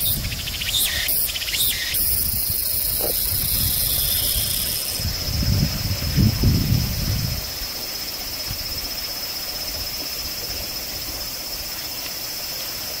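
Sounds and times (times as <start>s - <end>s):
cicadas singing: 0.0s - 13.0s.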